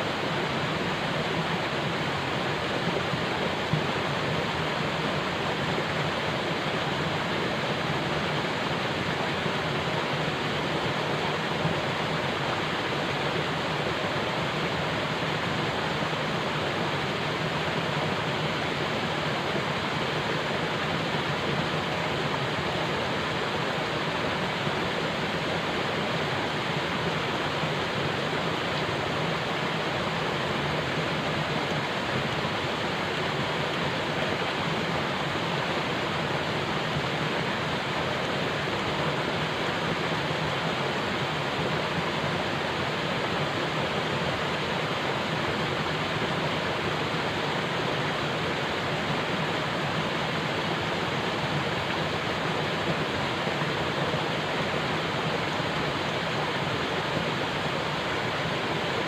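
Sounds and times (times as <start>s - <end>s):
falling water rushing: 0.0s - 59.0s.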